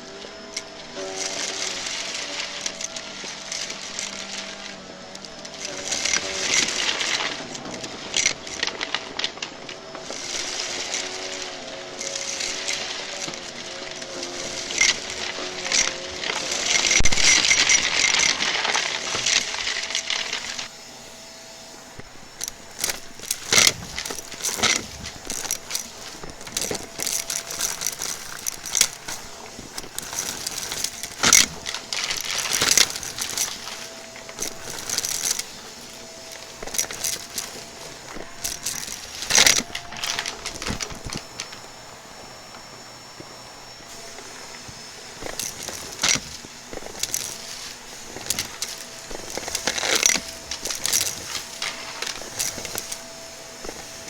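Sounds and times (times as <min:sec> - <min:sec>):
clicks crackles and rattles: 0:00.0 - 0:54.0
faint steady hum: 0:00.0 - 0:54.0
vacuum cleaner motor whining: 0:00.0 - 0:54.0.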